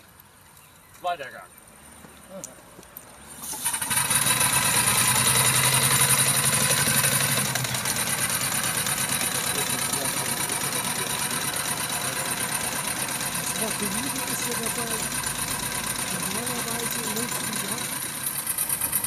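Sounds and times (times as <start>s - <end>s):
steam engine chuffing clatter: 3.6s - 19.0s.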